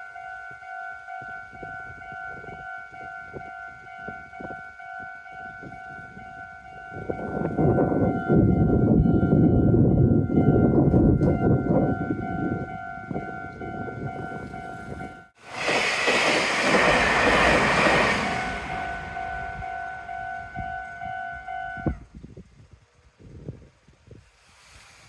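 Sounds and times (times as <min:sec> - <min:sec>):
level-crossing warning bell: 0:00.0 - 0:15.4, 0:16.7 - 0:22.0
train passing: 0:00.0 - 0:22.1.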